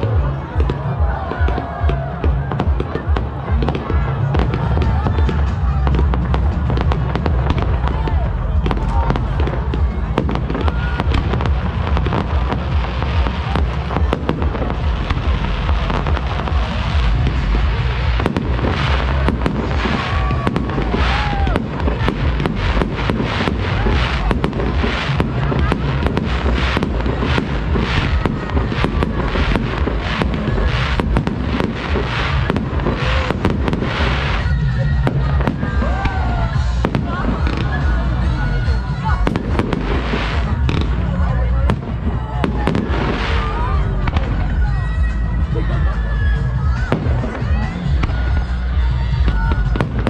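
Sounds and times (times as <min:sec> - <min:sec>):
fireworks booming and crackling: 0:00.0 - 0:50.0.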